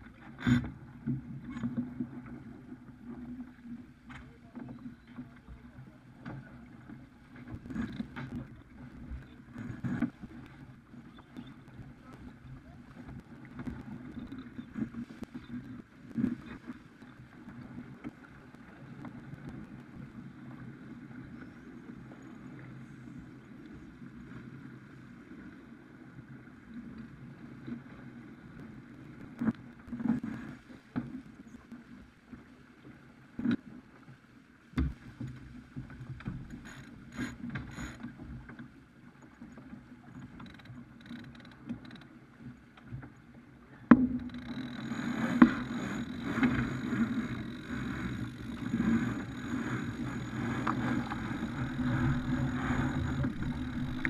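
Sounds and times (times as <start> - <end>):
water and wind rushing along hull: 0.0 - 54.0.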